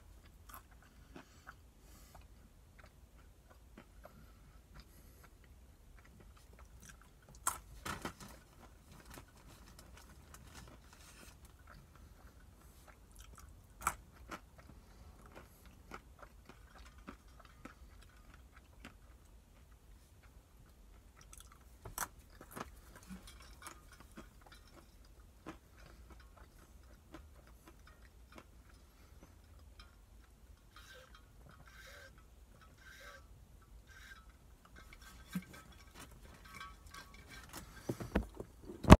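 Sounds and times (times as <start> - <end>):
chewing almonds crunching: 0.2 - 7.8, 8.5 - 32.1.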